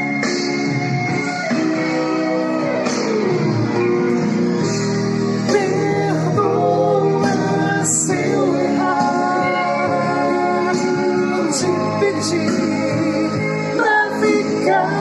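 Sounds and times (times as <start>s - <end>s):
pop song with guitar: 0.0s - 15.0s.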